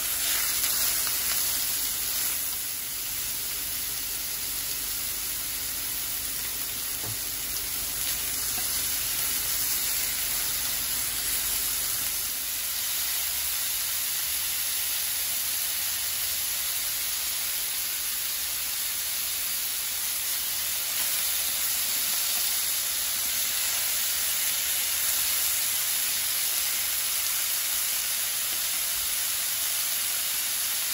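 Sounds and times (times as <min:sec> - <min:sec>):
food sizzling in a frying pan: 0:00.0 - 0:30.9.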